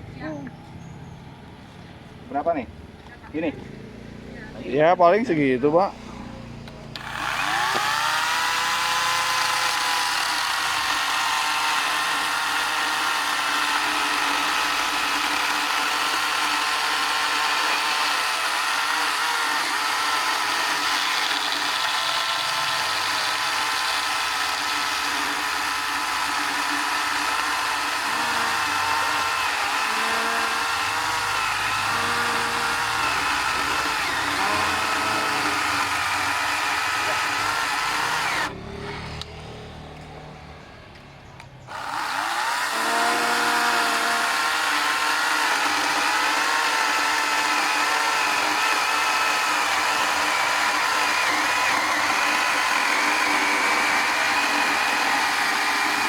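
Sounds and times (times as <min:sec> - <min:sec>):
cordless chainsaw whine: 0:05.2 - 0:40.2, 0:41.7 - 0:56.0.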